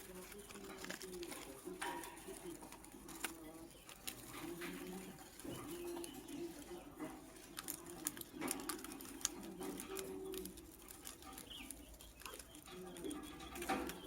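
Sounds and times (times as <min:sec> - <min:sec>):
birds clicking and tapping: 0:00.0 - 0:14.0
pigeon cooing: 0:00.0 - 0:14.0.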